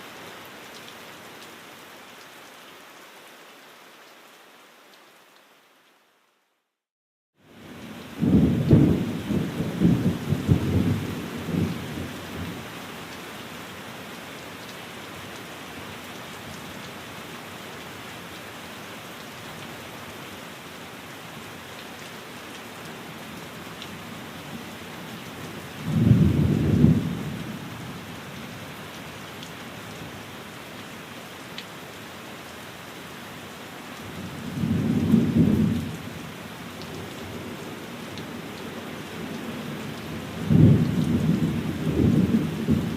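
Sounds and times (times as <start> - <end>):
steady rain: 0.0 - 6.8, 7.4 - 42.9.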